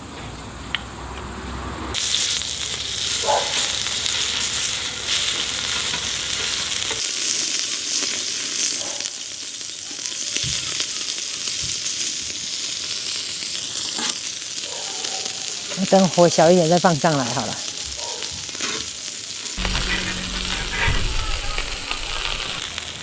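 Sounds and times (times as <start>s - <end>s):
food sizzling on a grill: 1.9s - 23.0s.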